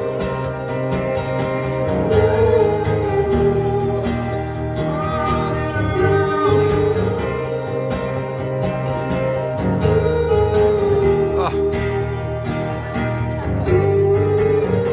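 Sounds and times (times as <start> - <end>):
acoustic guitars strumming: 0.0 - 14.9.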